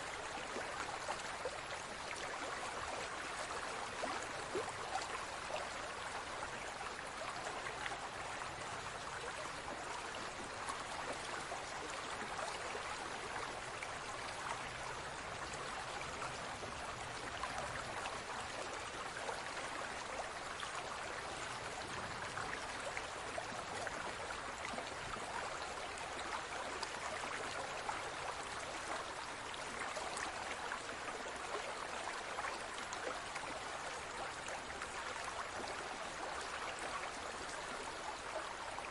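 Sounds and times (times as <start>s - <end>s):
aquarium water trickling and bubbling: 0.0s - 38.9s.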